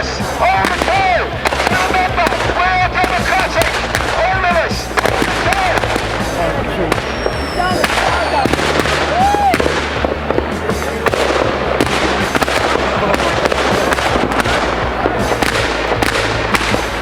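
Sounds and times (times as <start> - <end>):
firework whistle: 0.0 - 17.0
fireworks bangs and crackles: 0.0 - 17.0.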